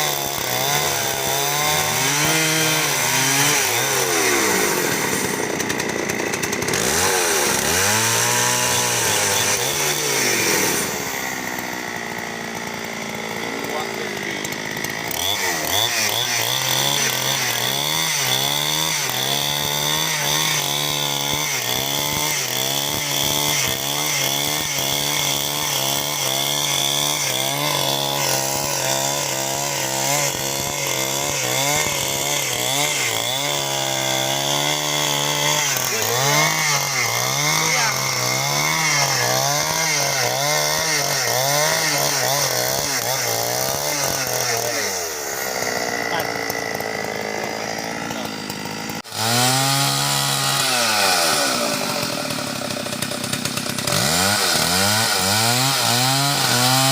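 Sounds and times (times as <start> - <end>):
chainsaw cutting timber: 0.0 - 56.9.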